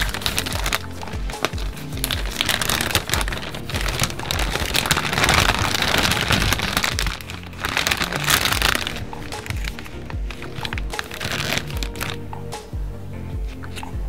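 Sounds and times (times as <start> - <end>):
snack packaging crinkling: 0.0 - 12.2
background music with beat: 0.0 - 14.0.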